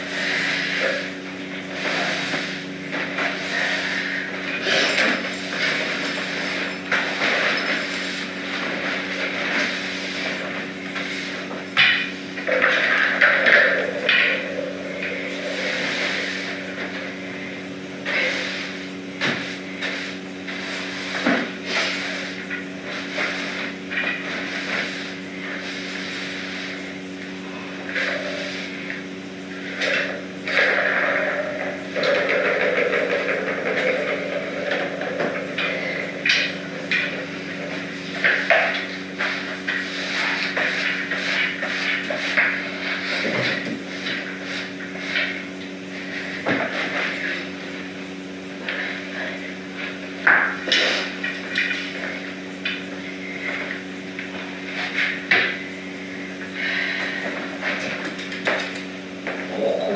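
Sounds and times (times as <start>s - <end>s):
broom sweeping hard floor: 0.0s - 59.6s
low electrical hum: 0.0s - 59.9s.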